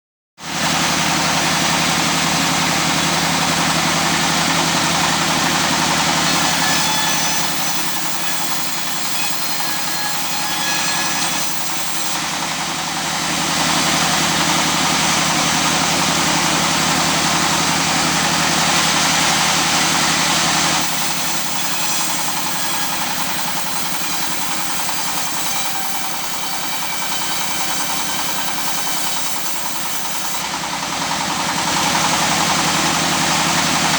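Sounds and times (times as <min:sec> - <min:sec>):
circular saw running: 0:00.4 - 0:33.9.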